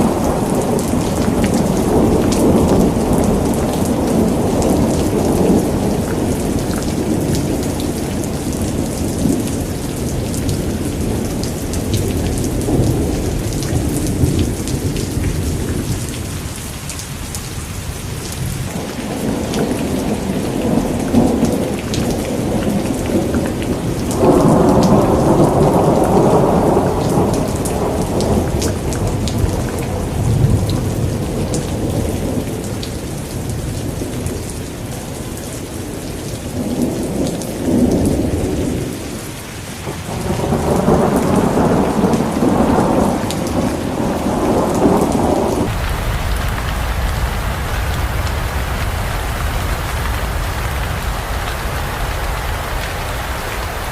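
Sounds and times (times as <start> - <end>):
thunder rumbling: 0.0 - 16.7, 18.2 - 32.4, 39.9 - 53.9
heavy rain: 0.0 - 53.9.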